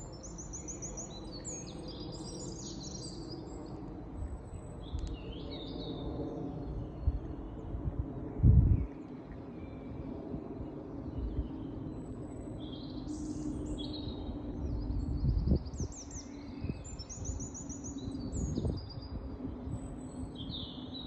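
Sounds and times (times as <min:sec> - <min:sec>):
low rumble with faint hum: 0:00.0 - 0:20.8
songbirds chirping and trilling: 0:00.0 - 0:21.0.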